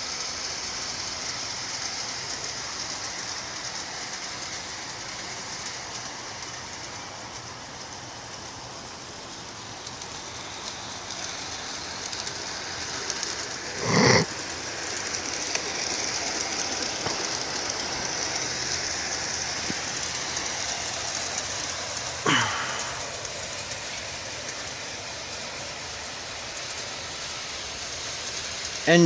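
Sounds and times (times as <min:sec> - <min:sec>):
model train wheels and motor hissing: 0:00.0 - 0:29.0.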